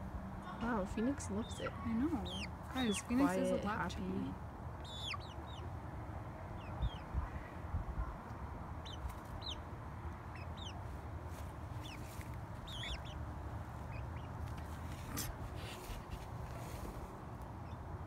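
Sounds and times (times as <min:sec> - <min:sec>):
low background rumble: 0:00.0 - 0:18.0
hen peeping softly: 0:00.4 - 0:05.8, 0:06.5 - 0:17.9.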